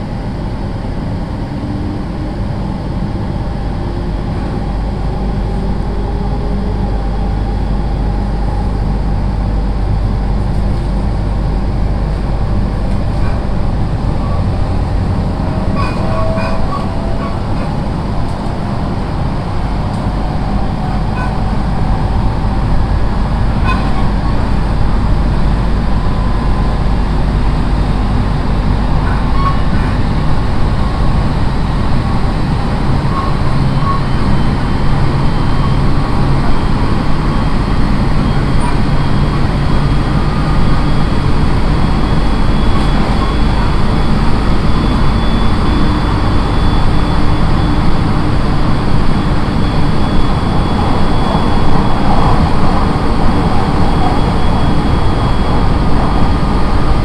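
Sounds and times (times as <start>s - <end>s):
faint steady whine: 0.0s - 57.0s
train wheels rumbling on rails: 0.0s - 57.0s.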